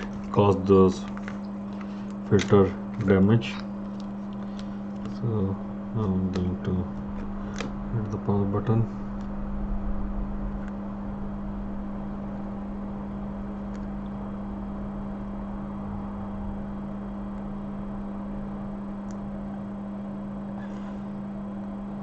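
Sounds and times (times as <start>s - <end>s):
electrical hum: 0.0s - 22.0s
fan-like noise: 0.0s - 22.0s.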